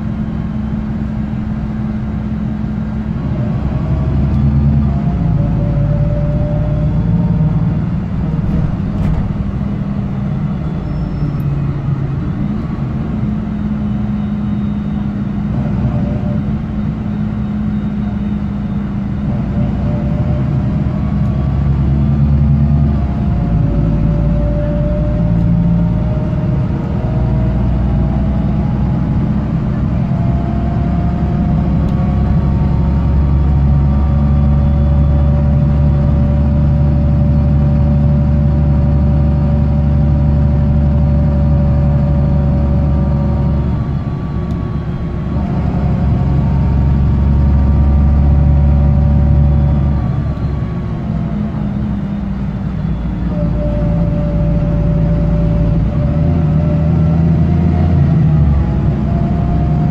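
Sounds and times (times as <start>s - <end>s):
bus engine droning: 0.0s - 59.9s
rising engine whine: 0.0s - 59.9s.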